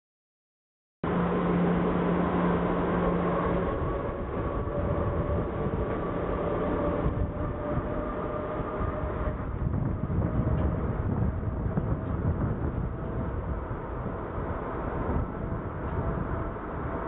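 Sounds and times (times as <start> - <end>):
jet engines roaring: 1.0 - 17.0.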